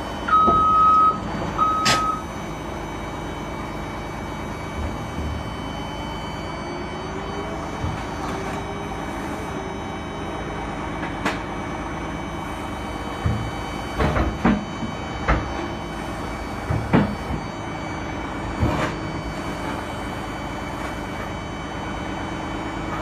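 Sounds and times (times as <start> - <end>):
excavator engine running: 0.0 - 23.0
warning alarm beeping: 0.0 - 23.0.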